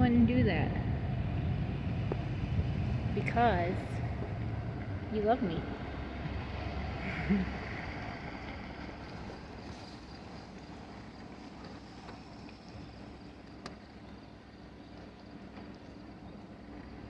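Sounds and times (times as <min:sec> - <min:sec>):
truck engine rumble: 0:00.0 - 0:17.0.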